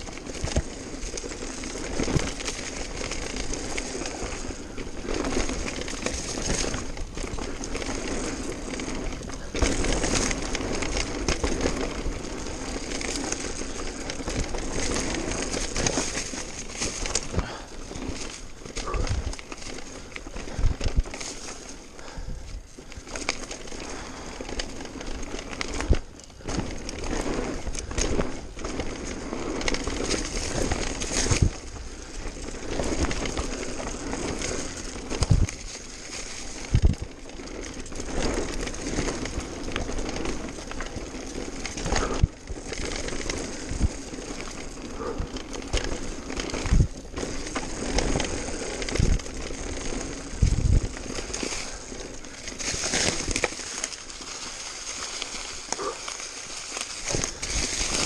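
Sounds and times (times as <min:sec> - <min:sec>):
bike rattling: 0:00.0 - 0:58.0
tyres crackling over dry leaves: 0:00.0 - 0:58.0.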